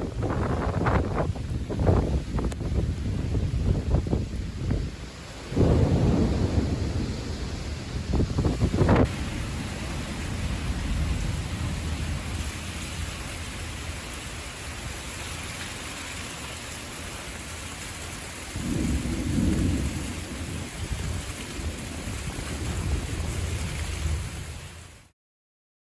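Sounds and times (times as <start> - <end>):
thunder rumbling: 0.0 - 15.0, 18.5 - 24.8
rain hissing: 0.0 - 25.1.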